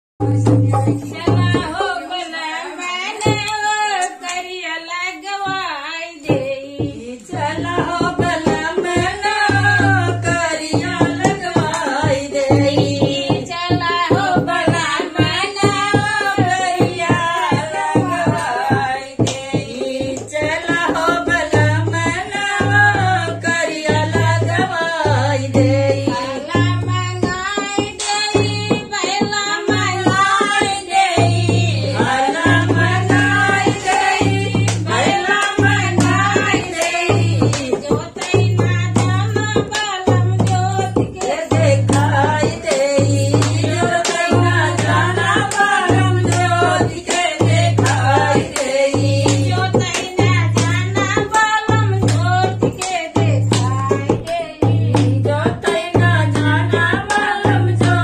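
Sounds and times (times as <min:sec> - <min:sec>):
hand drum beat: 0:00.2 - 0:04.4, 0:05.1 - 0:58.0
woman singing folk song: 0:00.2 - 0:58.0.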